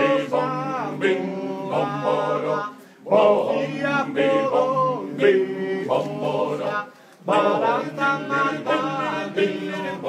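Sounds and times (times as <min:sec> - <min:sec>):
male choir singing a cappella: 0:00.0 - 0:10.0.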